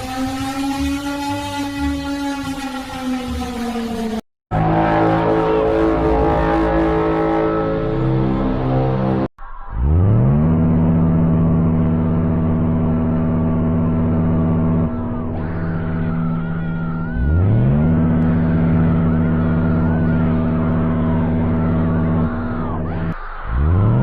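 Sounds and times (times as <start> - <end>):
wavering higher tone: 0.0 - 22.2.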